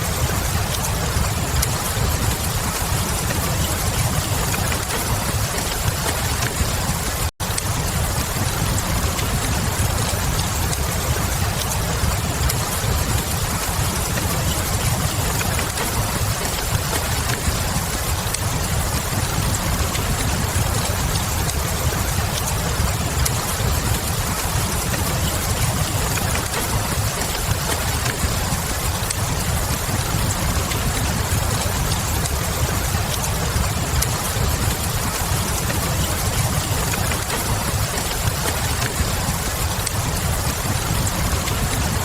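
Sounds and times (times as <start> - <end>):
steady rain: 0.0 - 42.0
wood fire crackling: 0.0 - 42.0.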